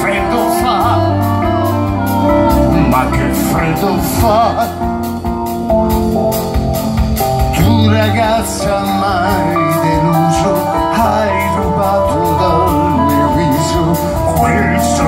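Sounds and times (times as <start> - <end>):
person singing with vibrato: 0.0 - 5.3, 7.6 - 15.0
keyboard: 0.0 - 15.0
upright double bass: 0.0 - 15.0.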